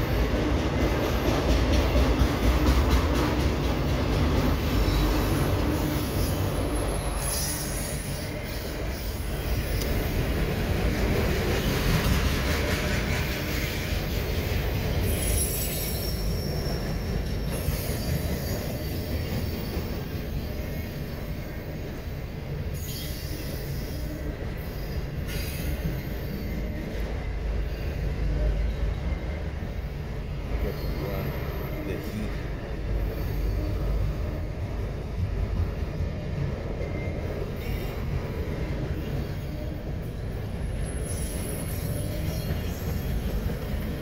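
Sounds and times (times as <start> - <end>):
train wheels on rails: 0.0 - 44.0.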